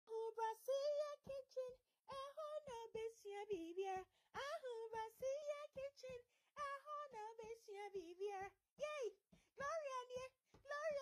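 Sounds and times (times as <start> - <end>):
high singing voice: 0.1 - 11.0.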